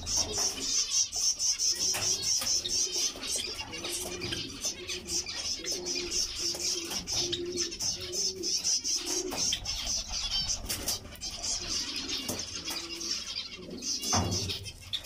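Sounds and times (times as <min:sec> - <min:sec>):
finches chattering: 0:00.0 - 0:15.0.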